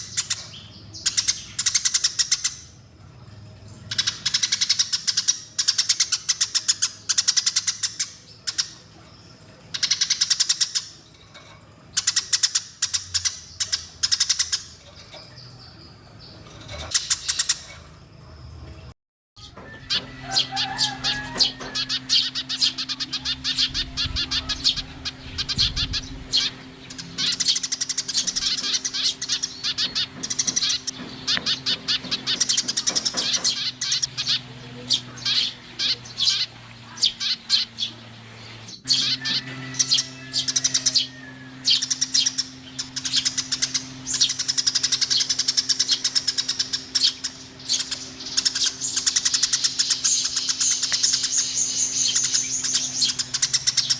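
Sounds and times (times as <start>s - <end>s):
sparrows chirping: 0.0s - 53.9s
steady low hum: 0.0s - 53.9s.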